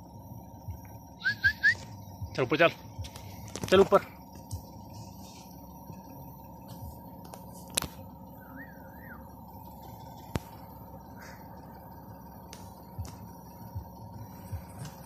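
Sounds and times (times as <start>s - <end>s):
faint steady hum: 0.0s - 15.0s
faint warbling chirp: 0.3s - 15.0s.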